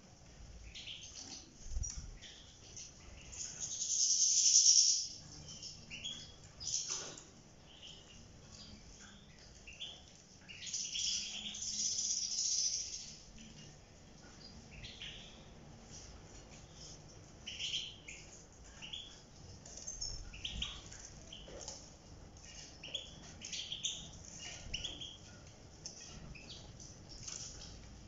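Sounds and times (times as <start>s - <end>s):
birds chirping and twittering: 0.0s - 28.0s.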